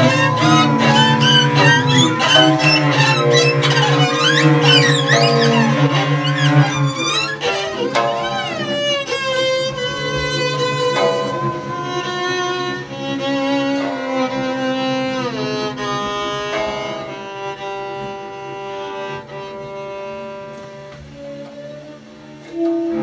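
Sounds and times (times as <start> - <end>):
violin and cello bowed notes: 0.0 - 23.0.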